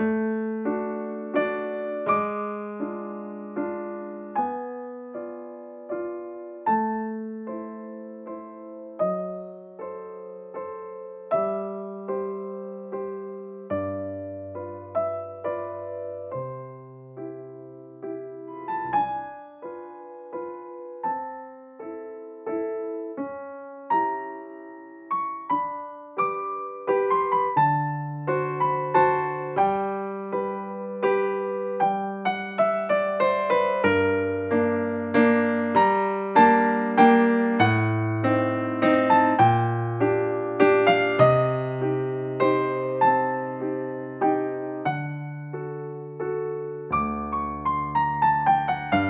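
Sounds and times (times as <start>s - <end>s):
electric piano melody: 0.0s - 49.0s.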